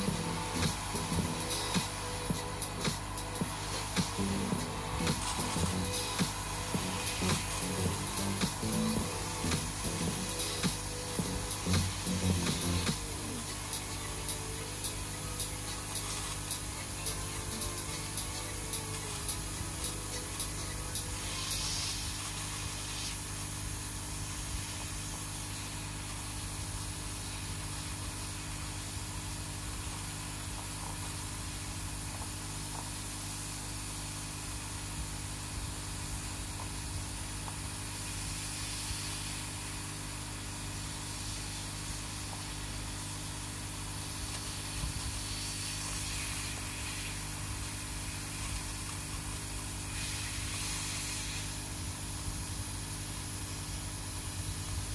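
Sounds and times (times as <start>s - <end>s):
hot-air gun hissing: 0.0s - 54.9s
low electrical hum: 0.0s - 54.9s.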